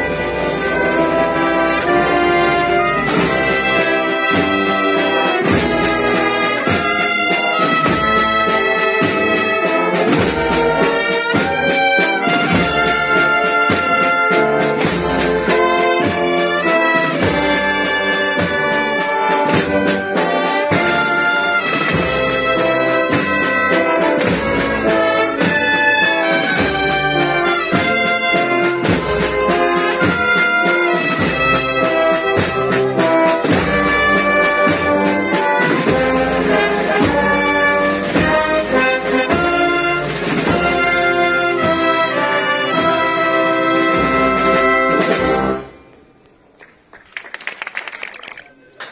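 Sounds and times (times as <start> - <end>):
steady drum beat: 0.0 - 45.5
tuba: 0.0 - 45.9
brass band playing slow march: 0.0 - 46.1.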